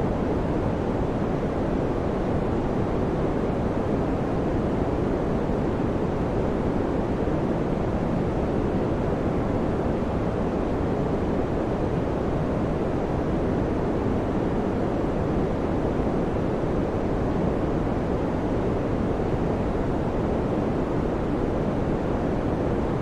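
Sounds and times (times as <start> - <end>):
electric fan airflow: 0.0 - 23.0.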